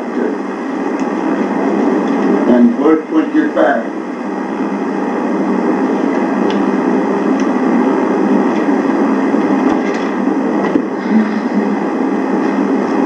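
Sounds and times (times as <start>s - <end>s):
background hiss and rumble: 0.0s - 13.0s.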